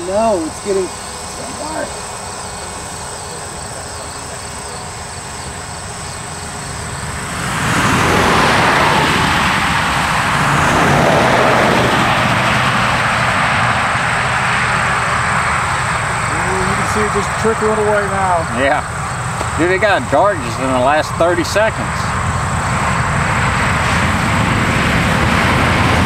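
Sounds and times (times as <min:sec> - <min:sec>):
vehicle passing by: 0:00.0 - 0:26.0.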